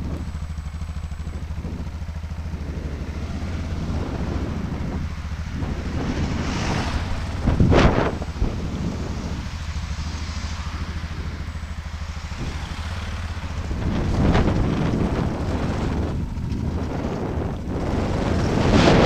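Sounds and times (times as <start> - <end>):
bicycle ride rumble and rattling: 0.0 - 19.0
wind buffeting microphone: 0.0 - 19.0.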